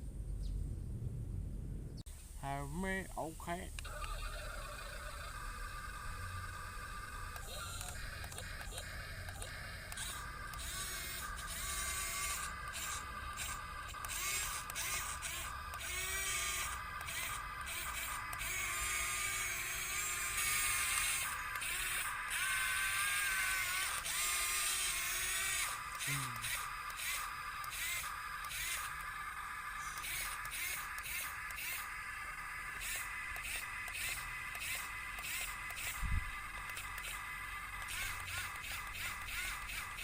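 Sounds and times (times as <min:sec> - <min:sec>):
small electric motor whirring: 0:03.7 - 0:40.0.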